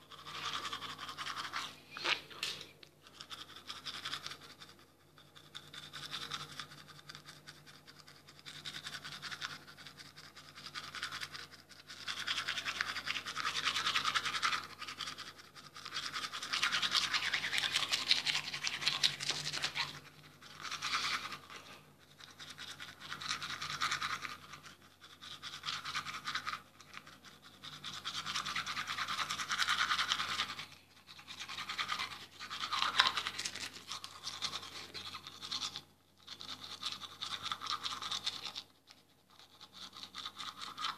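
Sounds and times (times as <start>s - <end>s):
toothbrush scrubbing teeth: 0.0s - 40.9s.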